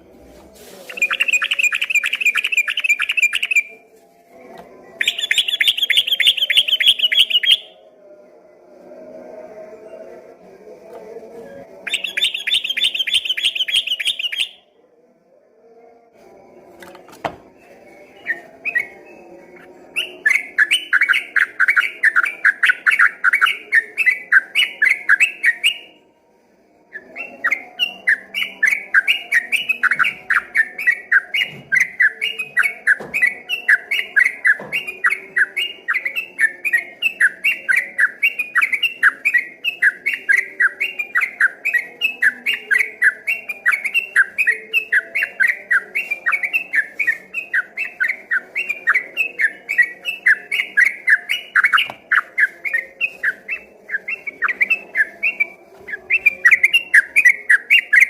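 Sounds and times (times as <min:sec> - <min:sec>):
bird singing rapid rolling song: 0:00.8 - 0:03.8, 0:04.7 - 0:07.9, 0:09.7 - 0:14.7, 0:16.5 - 0:26.1, 0:26.9 - 0:58.0.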